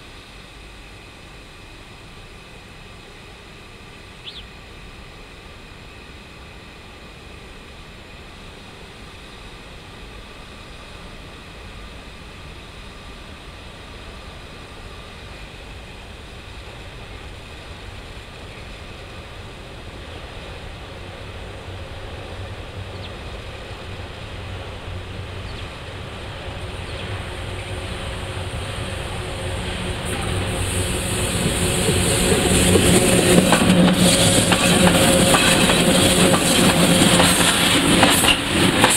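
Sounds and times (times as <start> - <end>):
locomotive hum and whine: 0.0 - 38.9
train running rumble: 0.0 - 38.9.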